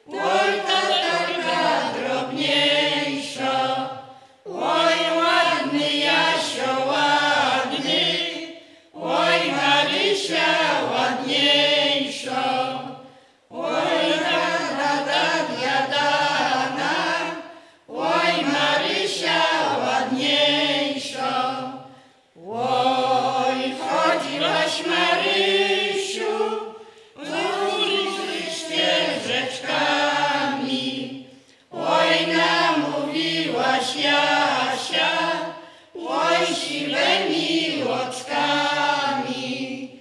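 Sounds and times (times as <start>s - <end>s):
mixed choir singing a cappella: 0.0s - 40.0s.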